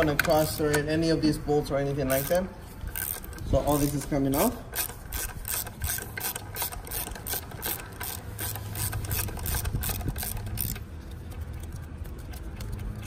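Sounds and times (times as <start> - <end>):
socket ratchet clicking: 0.0 - 0.9, 2.0 - 13.0.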